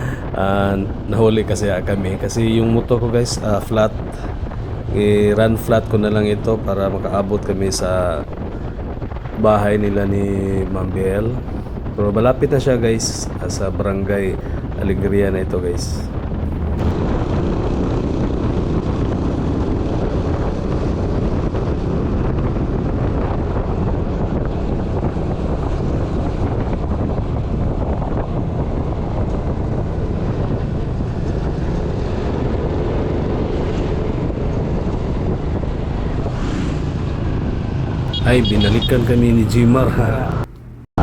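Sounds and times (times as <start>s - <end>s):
motorcycle engine and road noise: 0.0s - 40.9s
wind rushing over microphone: 0.0s - 40.9s.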